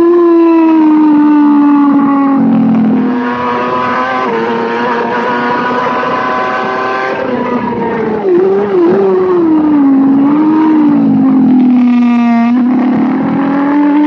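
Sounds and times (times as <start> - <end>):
racing motorcycle engine revving: 0.0 - 14.0.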